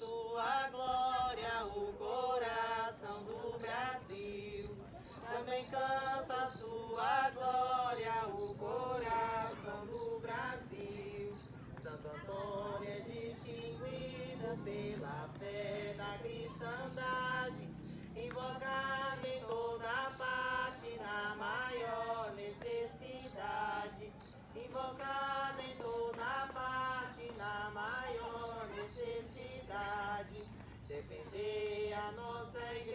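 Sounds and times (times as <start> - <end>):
group singing a hymn: 0.0 - 32.9.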